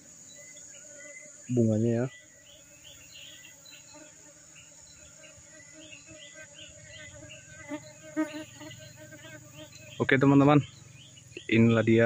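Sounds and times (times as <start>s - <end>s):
insects droning and chirping: 0.0s - 12.0s.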